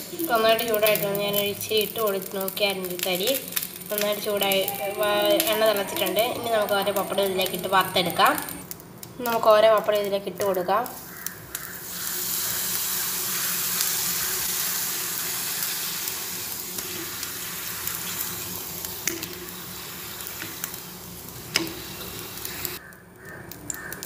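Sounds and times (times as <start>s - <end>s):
wafer sizzling in hot oil: 0.0s - 9.4s, 10.4s - 22.8s.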